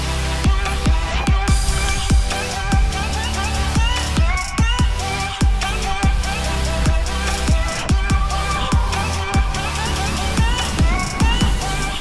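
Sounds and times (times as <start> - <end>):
deep kick drums: 0.0 - 12.0.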